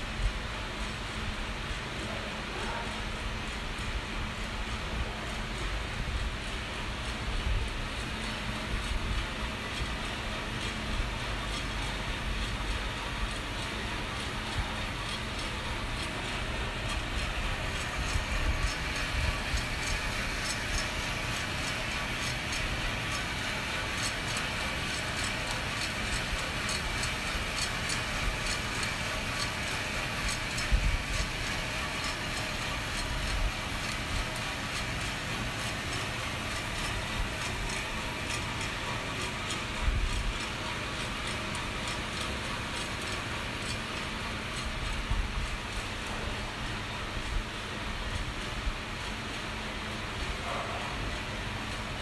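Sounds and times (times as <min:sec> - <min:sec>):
burner and fan rushing: 0:00.0 - 0:52.0
light regular ticking: 0:00.4 - 0:52.0.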